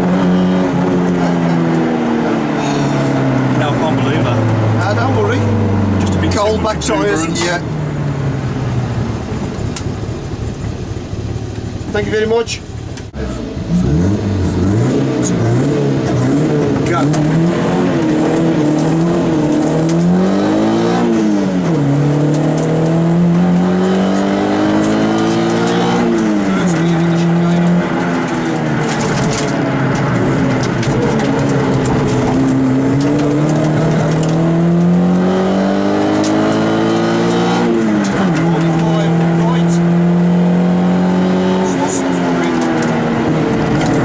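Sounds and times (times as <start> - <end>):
car engine revving through gears: 0.0 - 10.7, 11.9 - 44.0.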